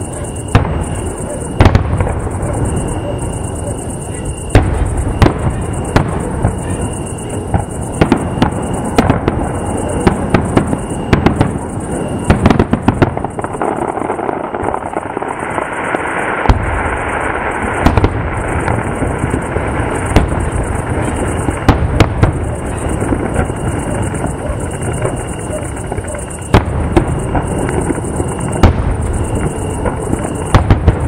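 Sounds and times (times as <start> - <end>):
fireworks cracking and banging: 0.0 - 31.0
deep firework boom: 4.3 - 31.0.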